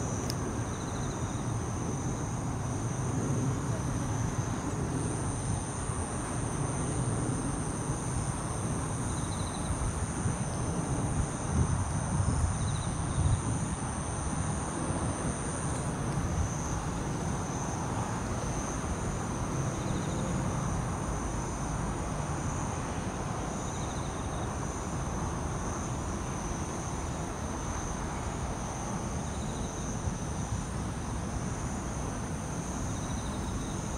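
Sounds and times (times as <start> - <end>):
crickets singing: 0.0 - 33.9
pulsed cricket trills: 0.0 - 33.9.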